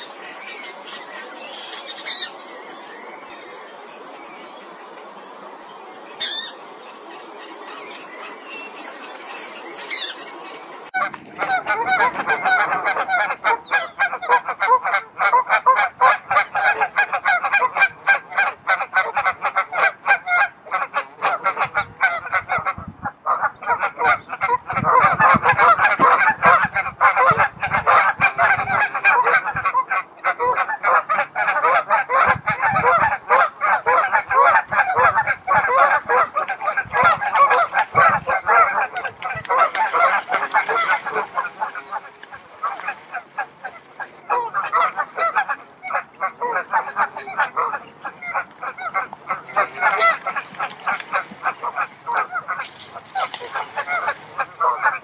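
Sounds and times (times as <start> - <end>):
waterfowl honking: 0.0 - 3.6, 6.2 - 6.6, 9.8 - 55.0.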